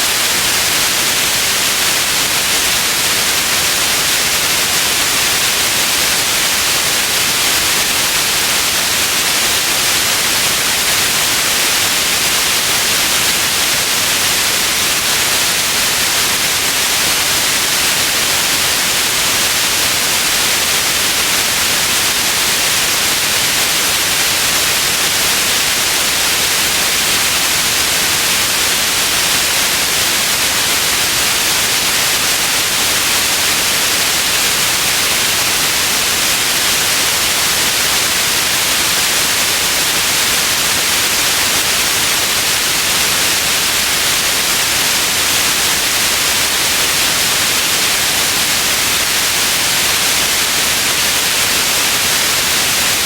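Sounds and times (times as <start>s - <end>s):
white noise hiss: 0.0s - 53.0s.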